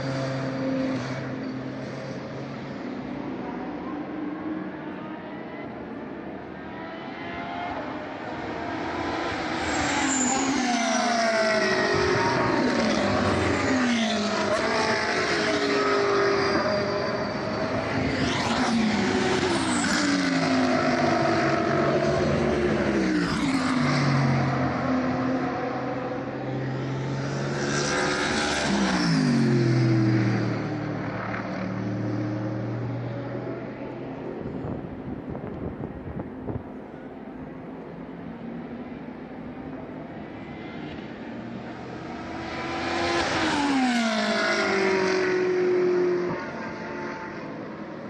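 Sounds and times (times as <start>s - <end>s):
race cars passing at speed: 0.0s - 48.0s.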